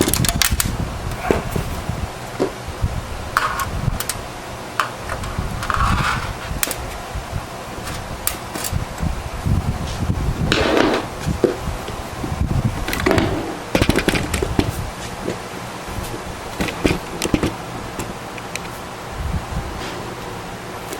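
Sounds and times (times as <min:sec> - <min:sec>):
low continuous rumble: 0:00.0 - 0:20.9.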